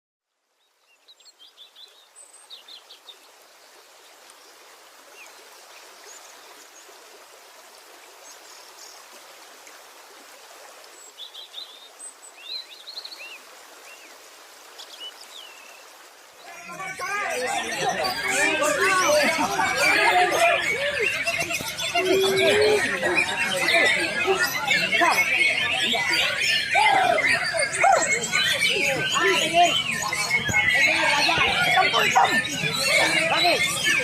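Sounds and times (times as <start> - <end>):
songbirds chirping and trilling: 0.5 - 34.0.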